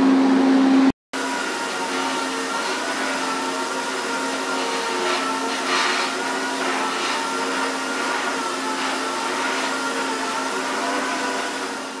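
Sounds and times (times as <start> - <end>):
ventilation fans running: 0.0 - 12.0.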